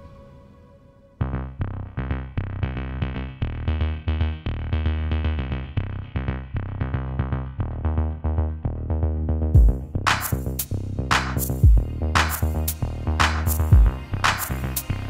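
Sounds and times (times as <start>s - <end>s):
background music with deep bass: 0.0s - 15.0s.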